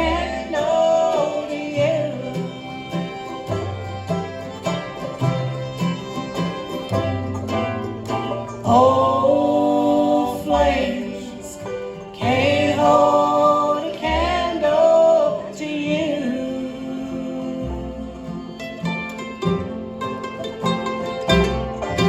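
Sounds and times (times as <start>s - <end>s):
bending held melody notes: 0.0s - 22.0s
bluegrass band playing: 0.0s - 22.0s.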